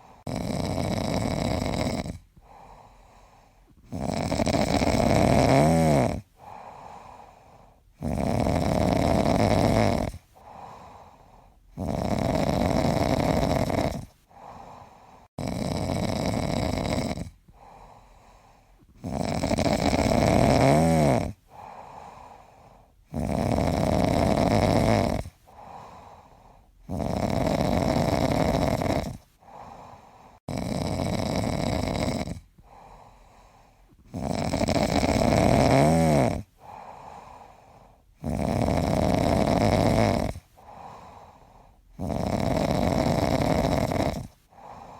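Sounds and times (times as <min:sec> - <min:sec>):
person snoring: 0:00.0 - 0:44.9.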